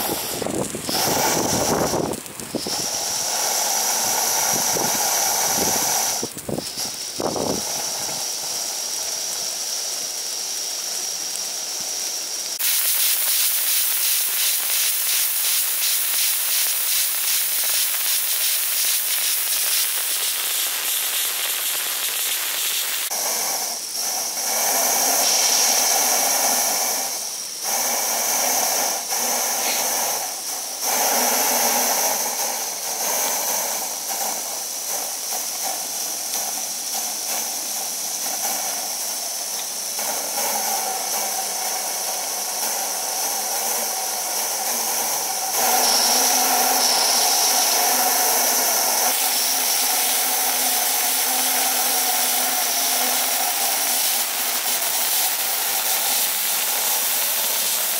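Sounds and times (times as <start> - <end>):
steam hissing: 0.0 - 57.9.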